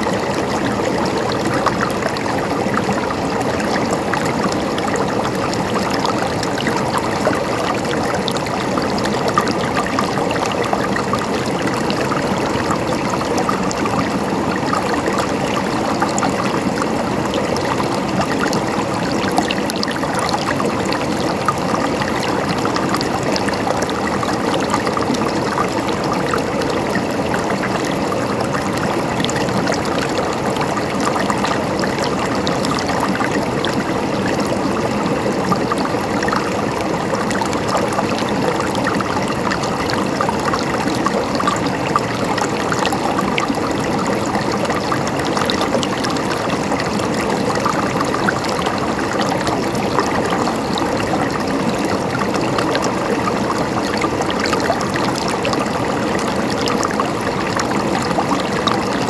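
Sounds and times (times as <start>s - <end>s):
stream water gurgling over rocks: 0.0s - 59.0s.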